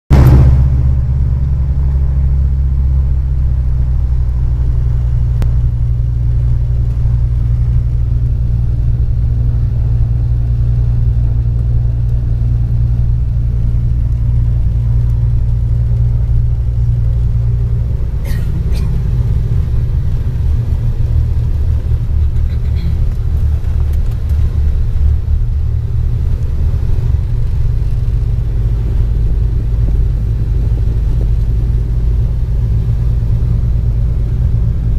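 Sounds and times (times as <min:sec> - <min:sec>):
twin piston engines droning: 0:00.2 - 0:34.9.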